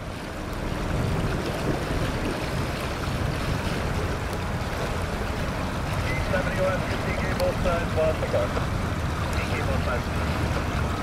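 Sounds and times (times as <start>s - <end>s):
creek water rushing over gravel: 0.0s - 11.0s
wind rumble on microphone: 0.0s - 11.0s.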